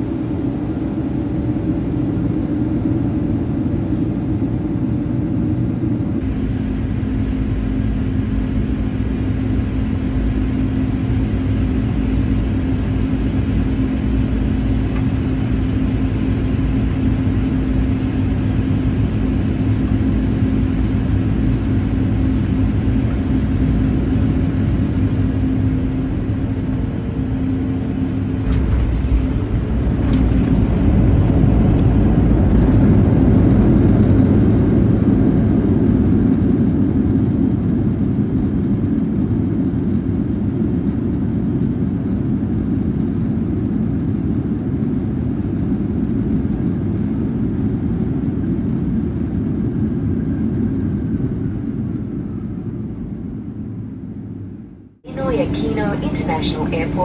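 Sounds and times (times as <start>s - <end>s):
rushing rumble on runway: 0.0s - 56.8s
airplane cabin engine hum: 0.0s - 57.0s.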